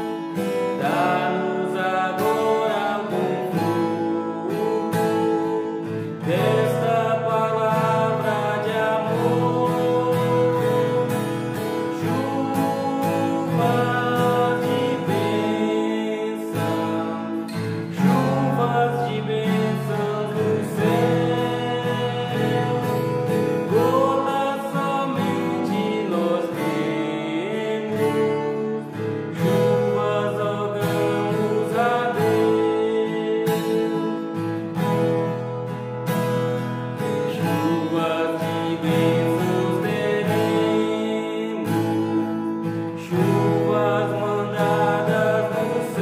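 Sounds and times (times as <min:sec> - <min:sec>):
man singing a hymn: 0:00.0 - 0:34.8, 0:37.0 - 0:46.0
acoustic guitar strumming: 0:00.0 - 0:46.0.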